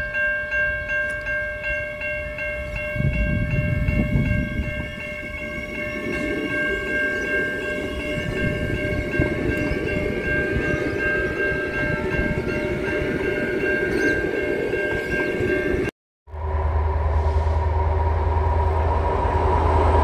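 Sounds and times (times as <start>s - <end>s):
wheels rumbling on rails: 0.0s - 20.0s
electric train drive whine: 1.1s - 20.0s.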